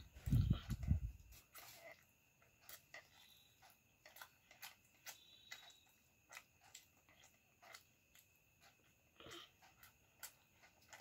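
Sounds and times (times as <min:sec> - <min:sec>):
fingers picking at food: 0:00.0 - 0:11.0.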